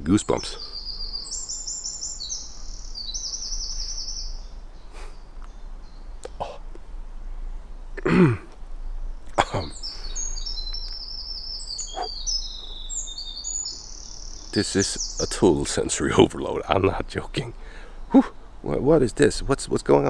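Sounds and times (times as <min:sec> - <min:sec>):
wren singing: 0:00.0 - 0:20.0.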